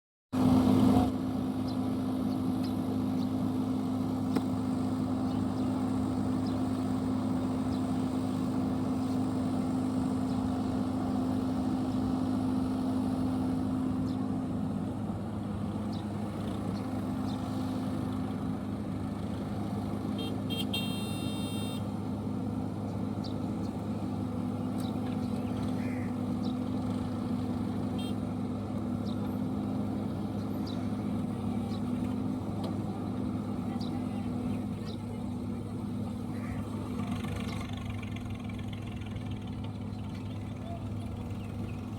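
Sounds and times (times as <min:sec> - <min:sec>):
tractor diesel engine running: 0:00.4 - 0:41.9.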